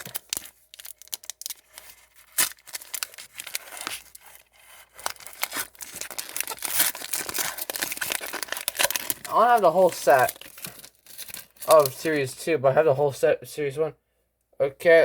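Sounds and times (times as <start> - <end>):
card pack wrapper tearing and crinkling: 0.0 - 12.3.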